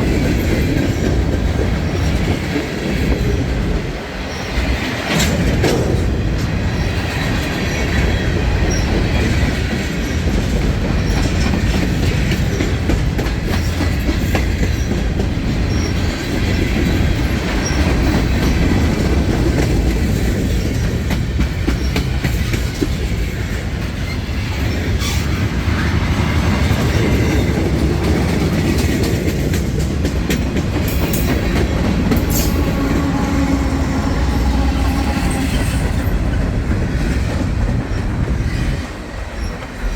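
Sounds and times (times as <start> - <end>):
freight train rumbling: 0.0 - 39.9
wheels clacking over rail joints: 0.0 - 39.9.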